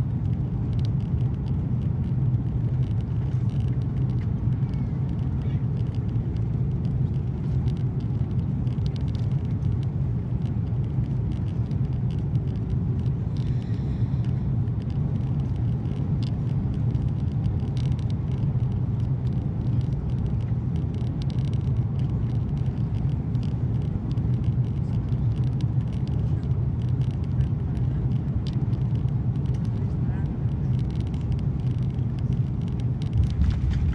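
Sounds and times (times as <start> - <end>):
airplane cabin rumble: 0.0 - 33.9
faint light rattles: 0.2 - 33.9.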